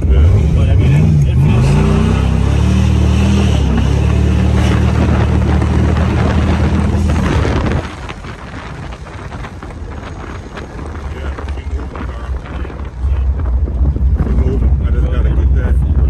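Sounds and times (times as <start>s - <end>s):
car engine at high revs: 0.0s - 16.0s
road and wind noise: 0.0s - 16.0s.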